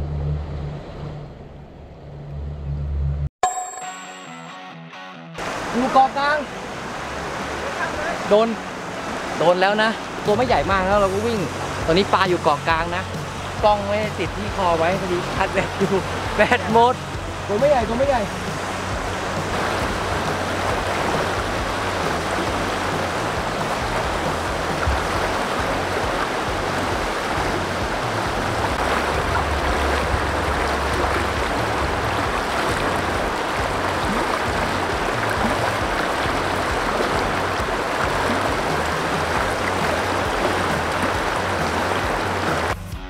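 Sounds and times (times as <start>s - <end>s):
river water rushing: 5.4s - 42.8s.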